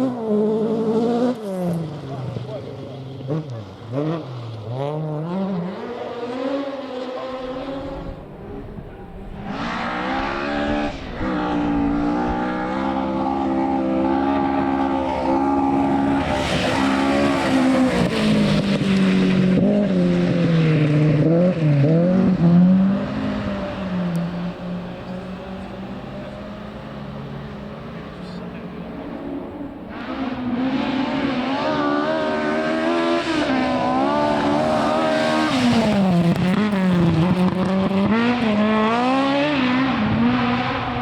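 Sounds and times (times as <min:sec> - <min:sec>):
rally car engine at full throttle: 0:00.0 - 0:41.0.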